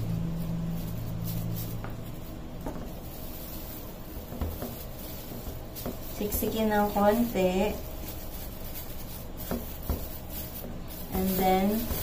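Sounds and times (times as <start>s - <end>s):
low steady hum: 0.0s - 12.0s
plastic sheet folding: 0.0s - 12.0s
spoon spreading meat on plastic: 0.4s - 12.0s.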